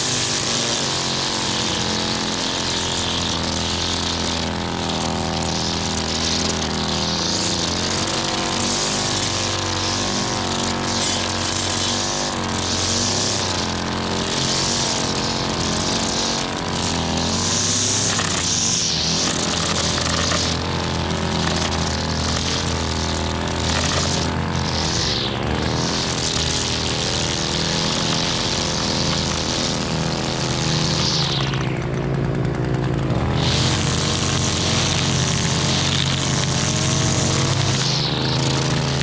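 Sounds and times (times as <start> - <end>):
string trimmer engine drone: 0.0 - 39.0
trimmer line cutting grass: 0.0 - 39.0.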